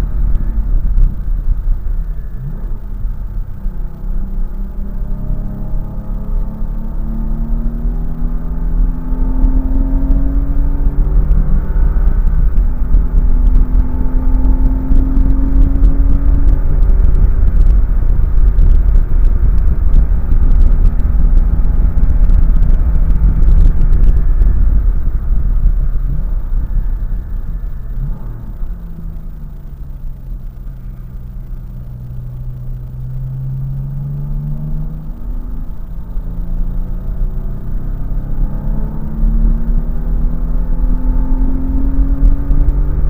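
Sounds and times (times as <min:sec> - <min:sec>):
car engine revving: 0:00.0 - 0:43.0
road and wind noise: 0:00.0 - 0:43.0.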